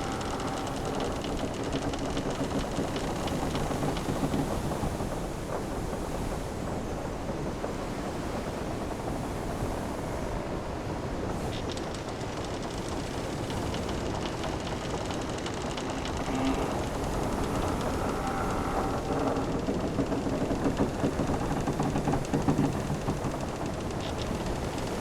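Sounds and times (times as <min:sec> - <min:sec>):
ocean waves washing: 0:00.0 - 0:25.0
ship ticks and creaks: 0:00.0 - 0:25.0
wind: 0:00.0 - 0:25.0.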